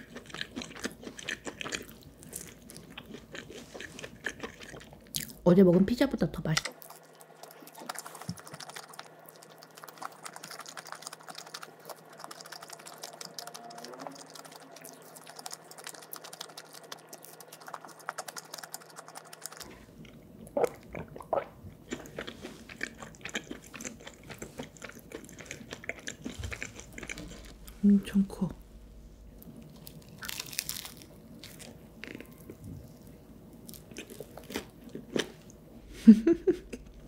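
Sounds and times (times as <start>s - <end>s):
chewing with mouth closed: 0.0s - 5.4s, 6.7s - 27.8s, 29.4s - 35.6s.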